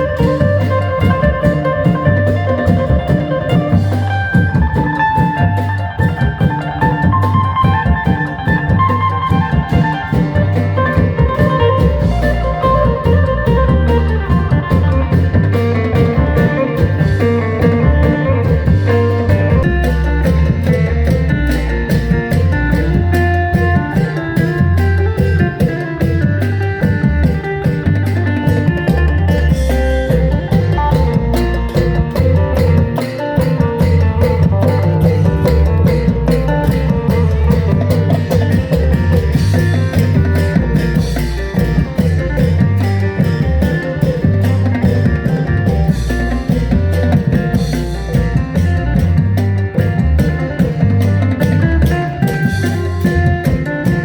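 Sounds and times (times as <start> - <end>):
heavy bass: 0.0 - 54.0
steady drum beat: 0.0 - 54.0.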